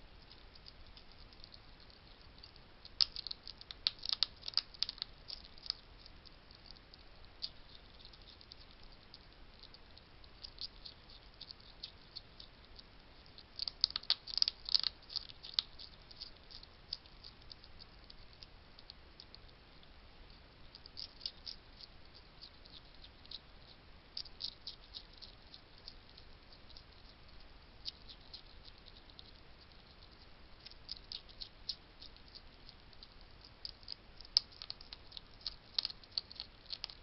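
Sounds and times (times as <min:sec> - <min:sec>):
hedgehog crunching food: 0:00.0 - 0:37.0.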